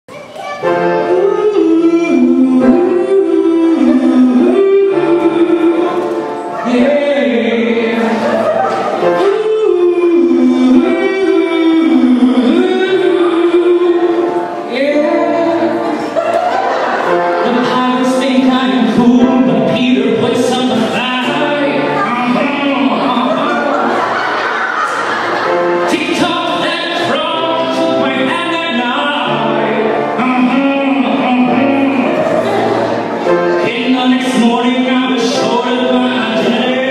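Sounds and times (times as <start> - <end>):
piano accompaniment: 0.1 - 36.9
man singing long held notes: 1.0 - 16.2, 17.4 - 23.9, 25.8 - 36.9.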